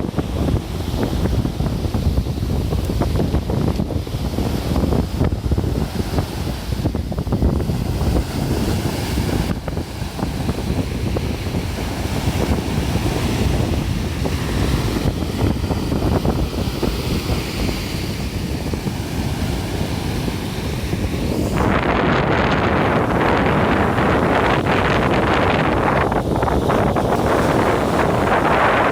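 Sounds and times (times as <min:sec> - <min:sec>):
sea surf breaking: 0:00.0 - 0:28.9
wind buffeting microphone: 0:00.0 - 0:28.9.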